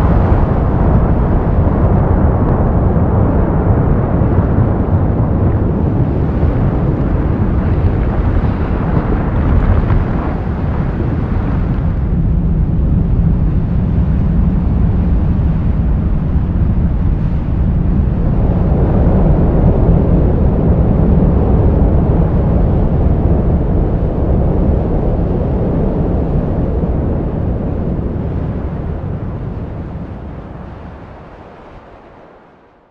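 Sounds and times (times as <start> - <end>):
wind buffeting microphone: 0.0 - 32.5.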